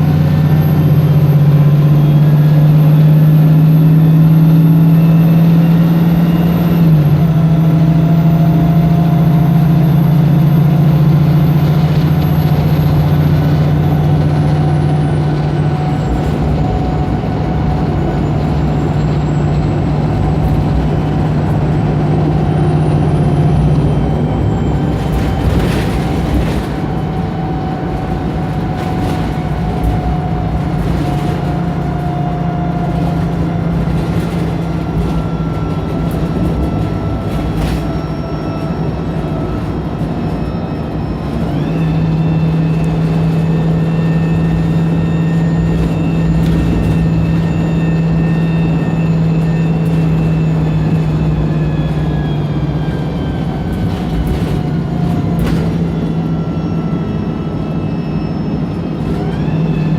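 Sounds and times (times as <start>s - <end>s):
bus engine drone with whine: 0.0s - 59.9s.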